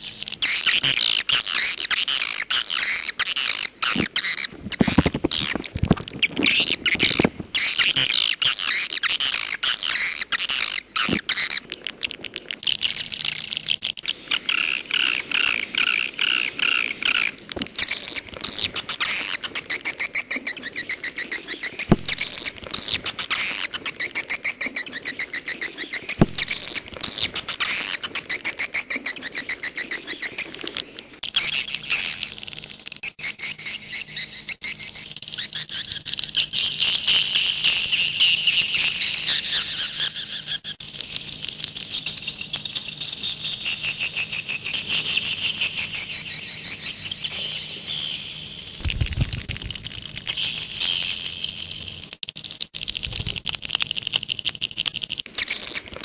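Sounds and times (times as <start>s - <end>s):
swiftlets chirping and trilling: 0.0s - 56.0s.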